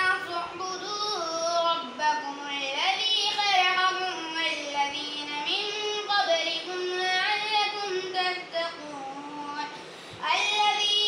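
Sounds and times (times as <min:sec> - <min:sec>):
child chanting melodically: 0:00.0 - 0:11.0.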